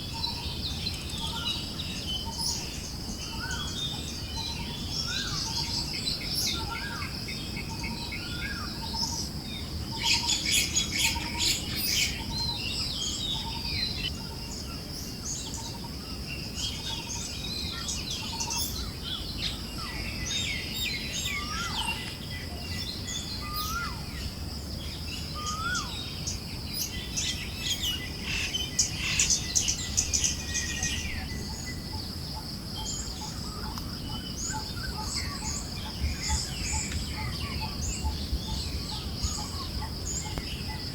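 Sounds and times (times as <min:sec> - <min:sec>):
birds chirping and whistling: 0:00.0 - 0:15.8, 0:16.6 - 0:40.9
high insect hum: 0:00.0 - 0:40.9.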